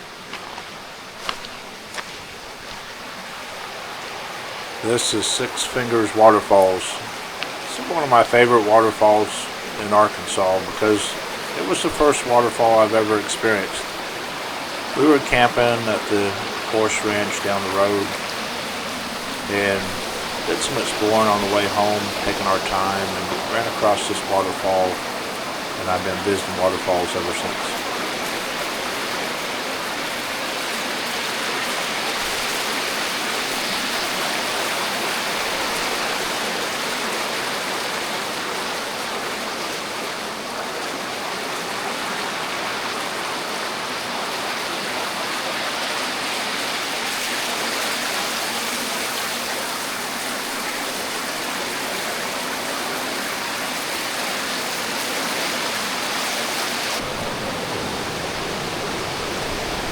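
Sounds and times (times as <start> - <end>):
waterfall splashing into pool: 0.0 - 59.9.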